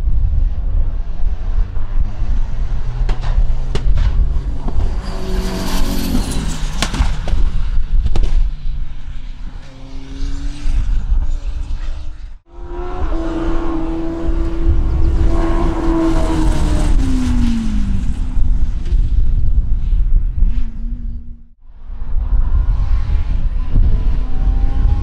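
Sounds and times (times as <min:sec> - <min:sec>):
race car engines at speed: 0:00.0 - 0:25.0.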